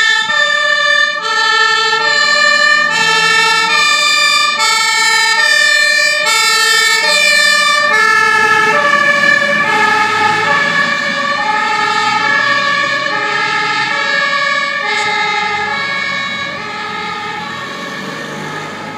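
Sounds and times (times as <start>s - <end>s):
truck engines running: 0.0s - 18.9s
two-tone fire engine sirens: 0.0s - 18.9s.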